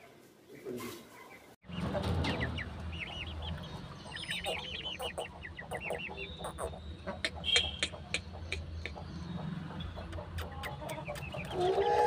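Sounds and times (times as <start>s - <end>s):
chicks peeping: 0.6s - 12.0s.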